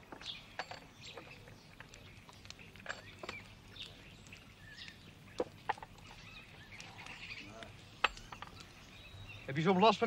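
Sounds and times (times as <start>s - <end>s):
bird chirps: 0.1s - 9.7s.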